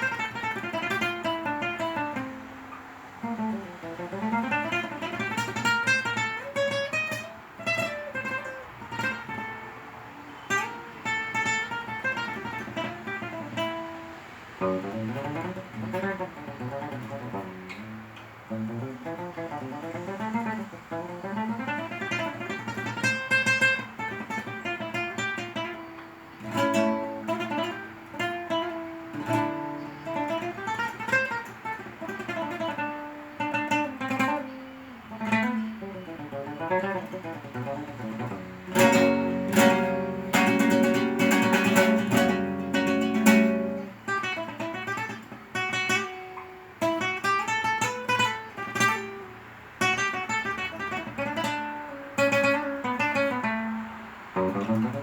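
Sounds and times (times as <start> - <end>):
flamenco acoustic guitar: 0.0 - 55.0.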